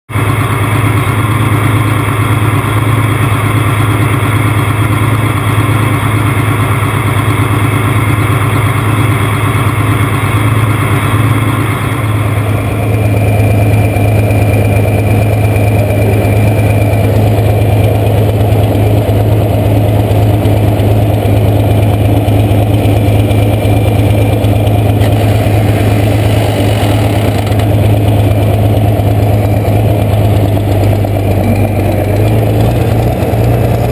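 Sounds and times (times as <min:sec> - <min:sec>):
diesel tractor engine idling: 0:00.1 - 0:33.9.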